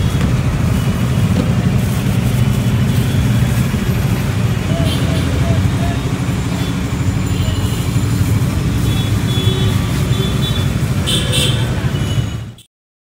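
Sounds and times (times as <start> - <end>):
street traffic rumble: 0.0 - 12.7.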